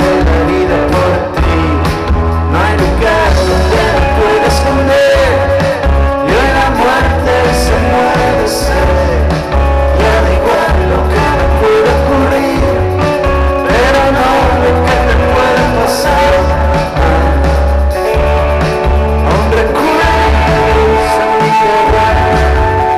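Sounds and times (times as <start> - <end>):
live rock band playing: 0.0 - 22.9
person singing: 0.0 - 22.9.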